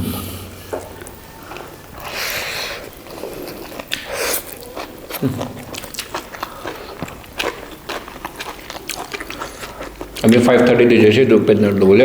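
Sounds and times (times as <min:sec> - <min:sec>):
chewing and biting food: 0:01.0 - 0:10.8.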